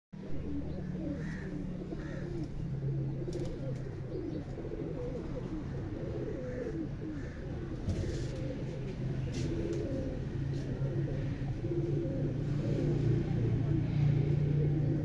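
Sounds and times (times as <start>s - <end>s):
pigeons cooing: 0.2s - 15.0s.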